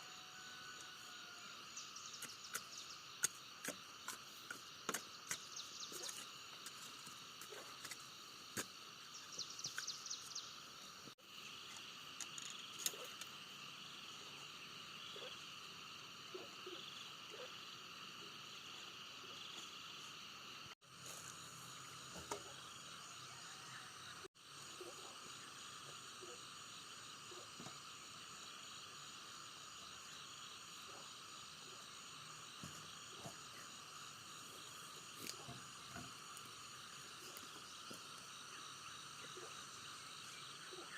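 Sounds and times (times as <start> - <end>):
insects and frogs chorus: 0.0 - 40.9.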